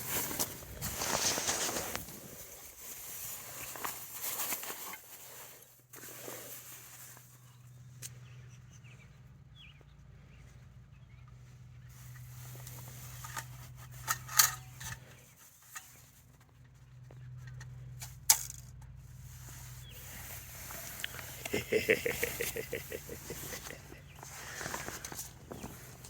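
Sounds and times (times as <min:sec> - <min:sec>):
rustling and handling noises: 0:00.0 - 0:08.0, 0:11.9 - 0:26.0.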